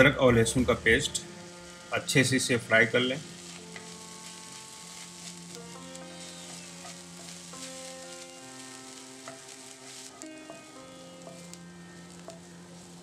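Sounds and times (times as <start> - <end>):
food sizzling in hot oil: 0.6 - 13.0
wooden spatula scraping a pan: 1.4 - 13.0.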